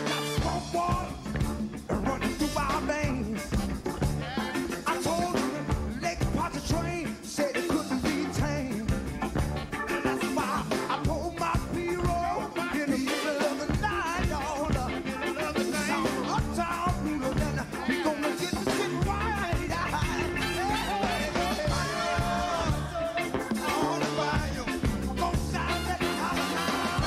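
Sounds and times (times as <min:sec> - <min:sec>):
funk band playing: 0:00.0 - 0:27.0
man singing: 0:00.0 - 0:27.0.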